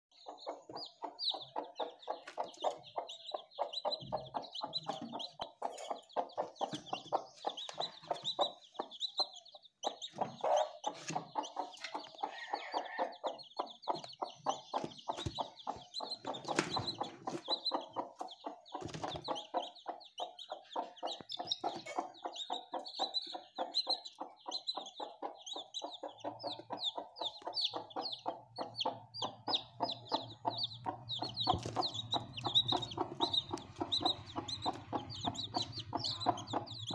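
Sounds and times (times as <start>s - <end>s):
chicks peeping: 0.1s - 36.9s.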